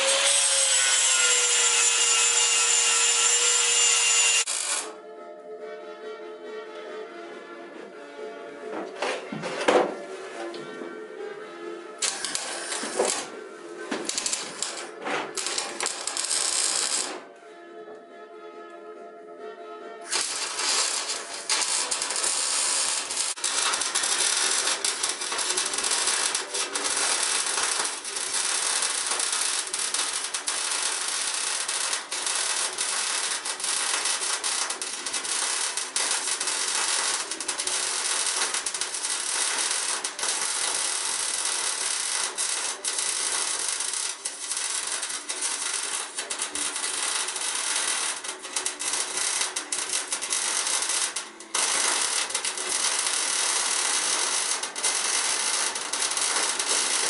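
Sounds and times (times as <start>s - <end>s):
arc welding crackling sizzle: 0.0s - 4.9s, 12.0s - 13.3s, 14.0s - 17.2s, 20.1s - 57.0s.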